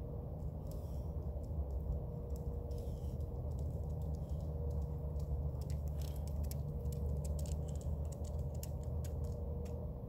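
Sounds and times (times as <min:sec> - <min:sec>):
low industrial roar: 0:00.0 - 0:10.0.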